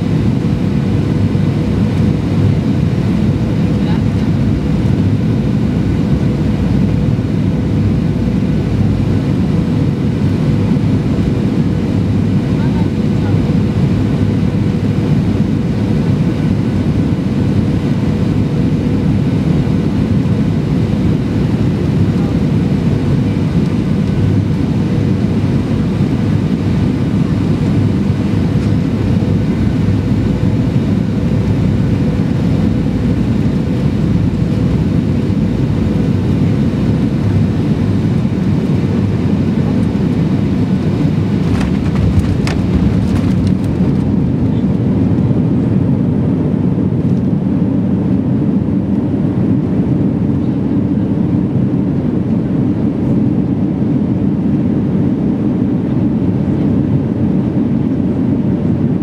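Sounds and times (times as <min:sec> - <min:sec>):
airflow rushing in aircraft cabin: 0:00.0 - 0:59.0
jet engines at approach power: 0:00.0 - 0:59.0.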